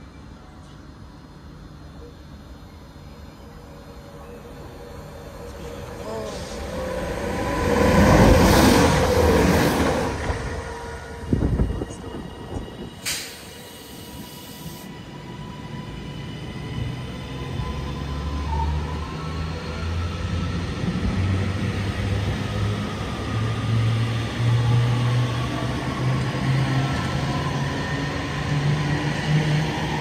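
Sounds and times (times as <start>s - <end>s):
train passing: 0.0s - 30.0s.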